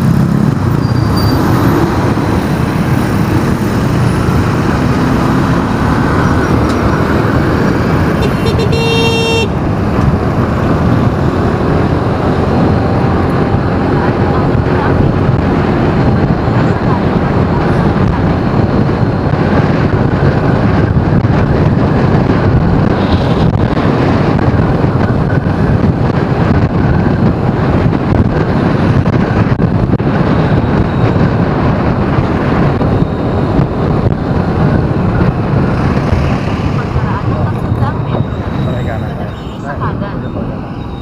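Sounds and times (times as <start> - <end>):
vehicle road noise: 0.0 - 41.0
wind on microphone: 0.0 - 41.0.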